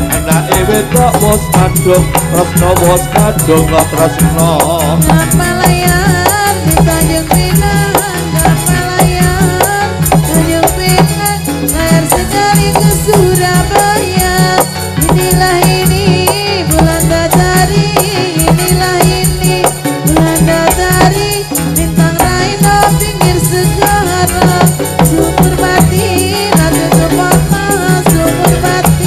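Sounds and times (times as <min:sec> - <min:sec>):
fast rattling percussion beat: 0:00.0 - 0:29.0.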